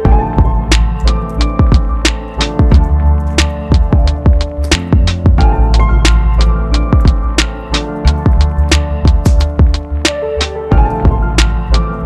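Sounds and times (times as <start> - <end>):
drum machine beat: 0.0 - 12.0.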